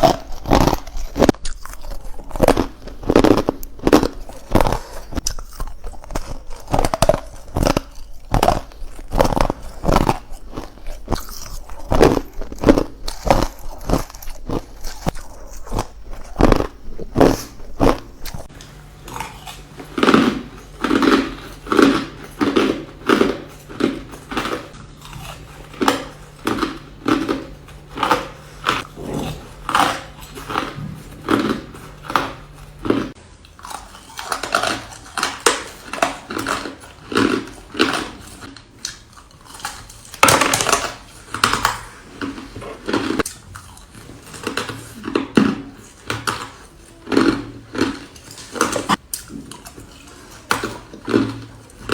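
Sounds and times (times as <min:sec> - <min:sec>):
ice being chewed: 0:00.0 - 0:51.9.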